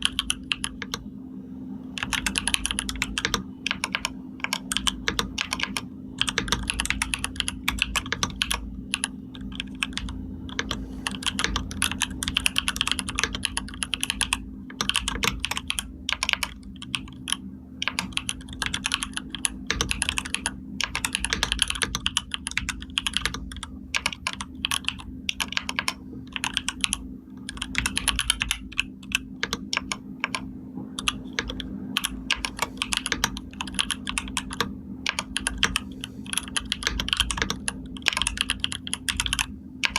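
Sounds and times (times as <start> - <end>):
fast typing on keyboard: 0.0 - 1.1, 2.0 - 39.9
steady low hum: 0.0 - 39.9.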